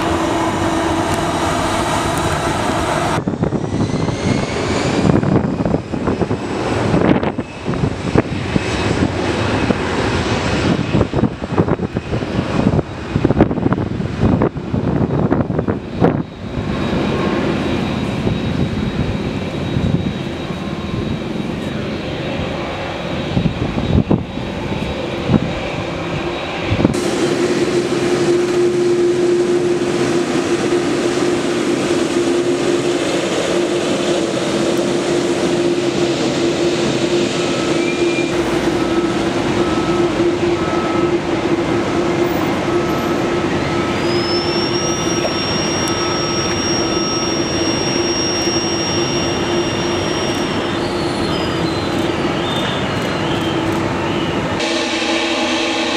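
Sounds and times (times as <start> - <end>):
high jet engine whine: 0.0 - 55.9
jet engine hum: 0.0 - 55.9.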